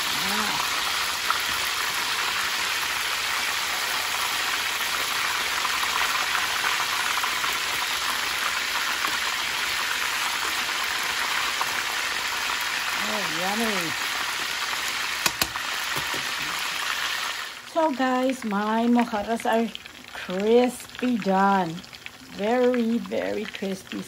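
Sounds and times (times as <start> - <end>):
fish deep-frying in oil: 0.0 - 24.0.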